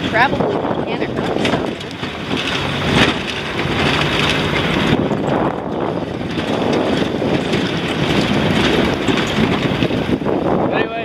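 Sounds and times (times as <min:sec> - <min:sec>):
truck driving on dirt road: 0:00.0 - 0:11.0
wind on microphone: 0:00.0 - 0:11.0.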